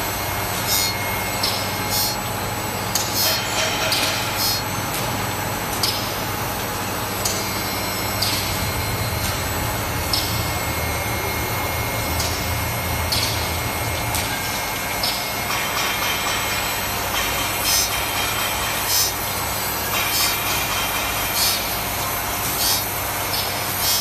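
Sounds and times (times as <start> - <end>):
machine motor hum: 0.0 - 24.0.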